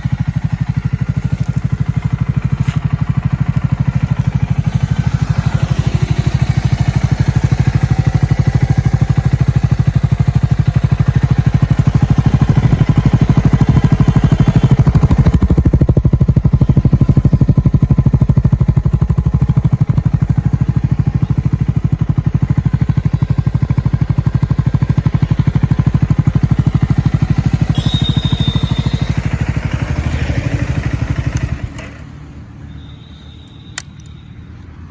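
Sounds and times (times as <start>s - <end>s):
motorcycle engine running: 0.0s - 32.1s.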